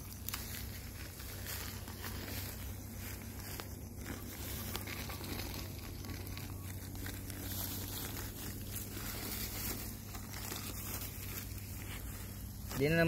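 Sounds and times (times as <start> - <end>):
hands rustling soil and plastic: 0.0 - 13.0.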